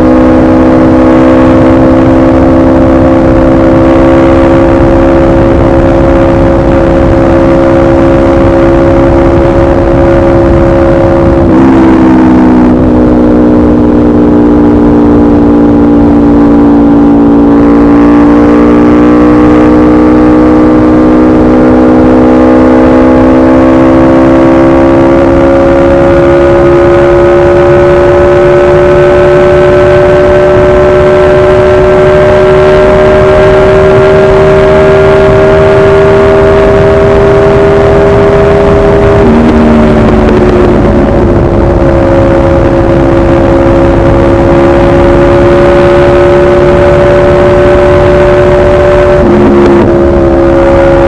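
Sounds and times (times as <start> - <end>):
motorcycle engine revving loudly: 0.0 - 51.0.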